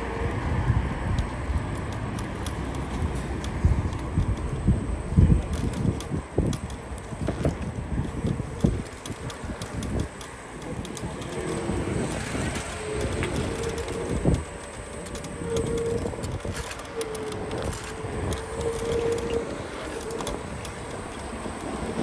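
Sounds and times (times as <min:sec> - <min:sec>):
humming tone: 0:00.0 - 0:22.0
scooter wheels rumbling: 0:00.0 - 0:22.0
wind on microphone: 0:00.0 - 0:22.0.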